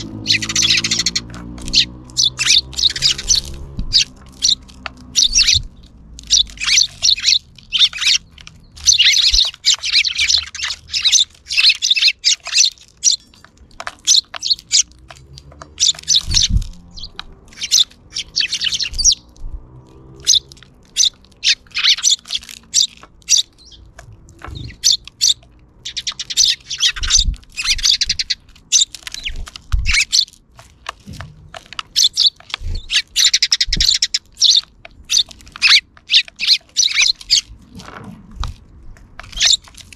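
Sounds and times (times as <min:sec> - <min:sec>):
sparrows chirping: 0:00.0 - 0:37.8, 0:38.4 - 0:39.9.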